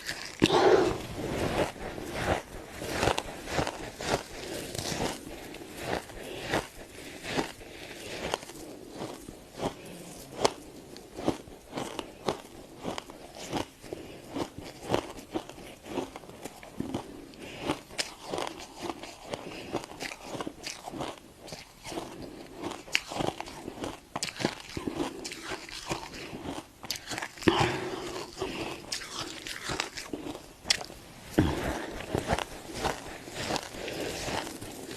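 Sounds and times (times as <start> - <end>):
frost crunching when chewed: 0.0 - 34.9.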